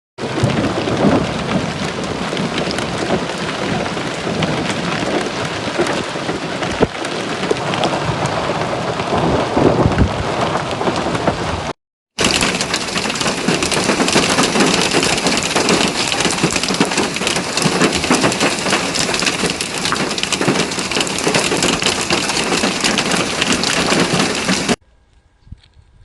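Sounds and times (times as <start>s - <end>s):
heavy rain pouring: 0.2s - 24.8s.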